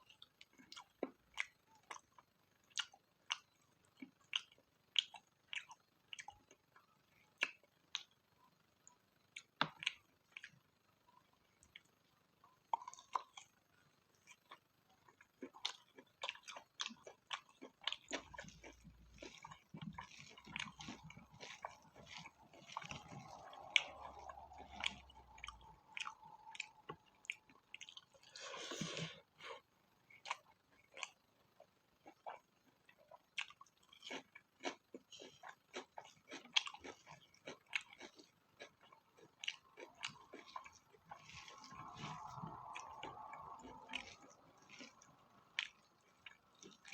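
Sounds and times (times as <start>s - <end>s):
wet chewing and mouth smacks: 0.1s - 8.2s, 8.8s - 10.6s, 12.6s - 29.0s, 30.0s - 46.9s.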